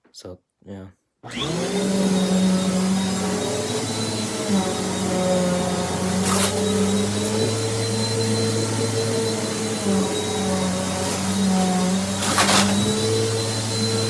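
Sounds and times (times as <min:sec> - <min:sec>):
vacuum cleaner motor humming: 0:01.2 - 0:14.0.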